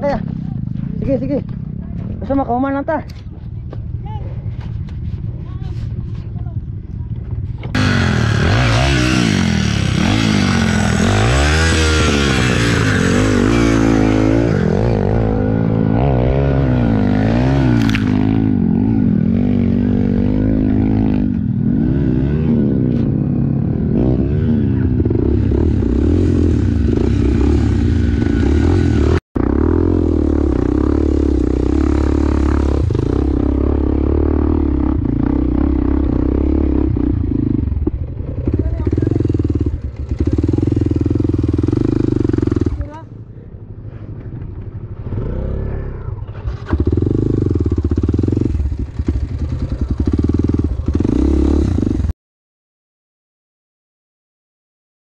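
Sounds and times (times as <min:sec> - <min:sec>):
dirt bike engines revving: 0:00.0 - 0:52.1.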